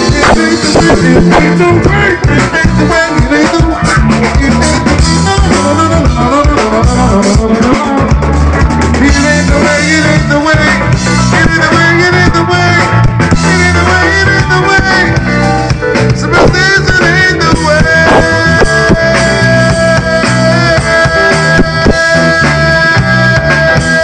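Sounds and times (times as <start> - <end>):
band playing funk groove: 0.0 - 24.0.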